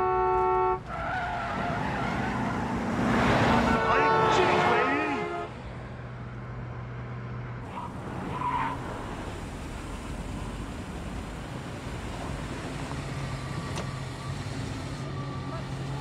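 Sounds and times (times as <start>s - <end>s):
car engines running in traffic: 0.0s - 16.0s.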